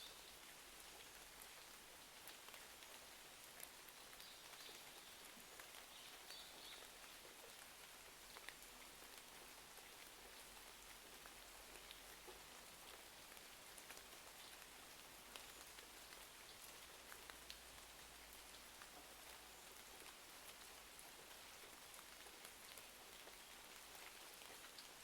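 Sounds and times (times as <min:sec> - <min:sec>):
small ticks and crackles: 0:00.0 - 0:25.0.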